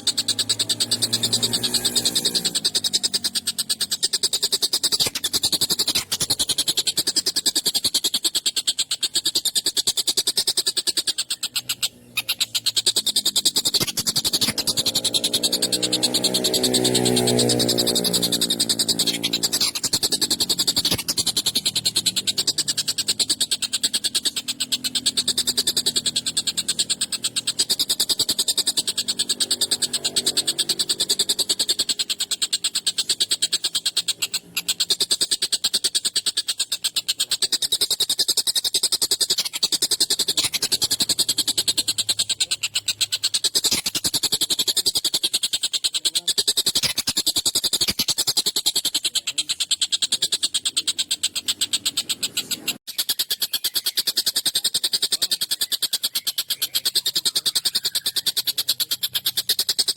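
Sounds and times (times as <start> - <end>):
kingfisher rattling call: 0.0 - 59.9.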